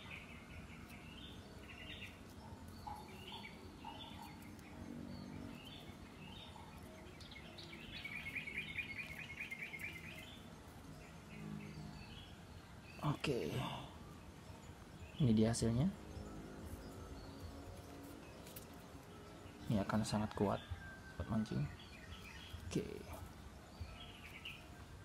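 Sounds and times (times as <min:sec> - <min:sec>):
bird trill: 0:00.0 - 0:25.0
birds chirping: 0:00.0 - 0:25.0
low background hiss: 0:00.0 - 0:25.0.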